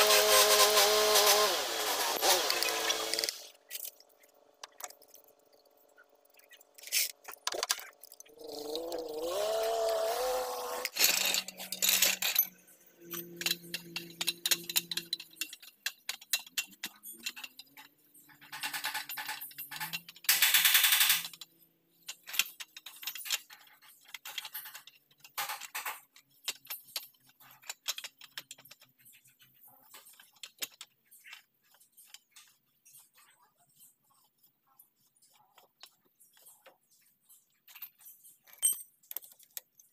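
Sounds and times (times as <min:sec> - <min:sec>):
tools and metal parts clinking: 0:01.9 - 0:10.0, 0:10.8 - 0:39.9.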